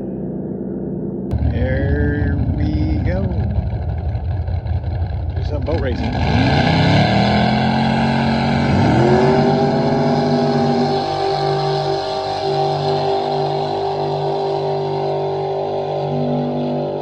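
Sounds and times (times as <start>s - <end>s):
boat engine at full throttle: 0.0s - 17.0s.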